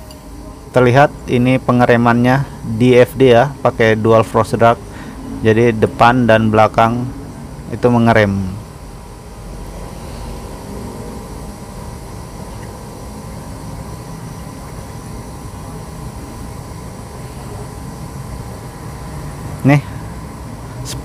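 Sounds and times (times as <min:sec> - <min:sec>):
faint constant whine: 0:00.0 - 0:21.0
mechanical hum with low rumble: 0:00.0 - 0:21.0.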